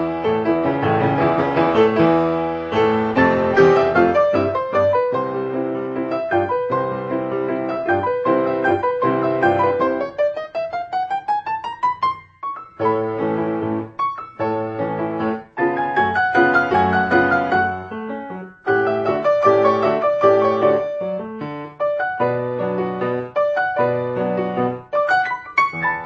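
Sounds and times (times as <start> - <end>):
solo piano playing: 0.0 - 26.0.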